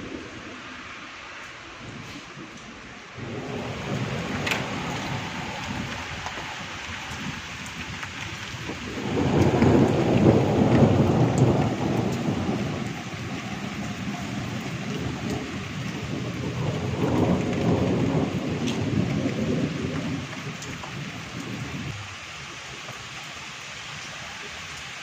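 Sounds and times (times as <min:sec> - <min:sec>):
thunder rumbling: 0:00.0 - 0:23.0
heavy rain falling: 0:00.0 - 0:25.0.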